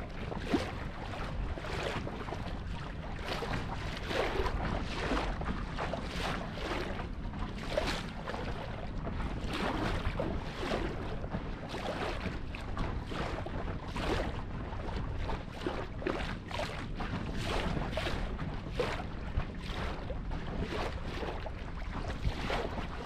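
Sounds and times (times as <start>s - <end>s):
water splashing against boat hull: 0.0s - 23.0s.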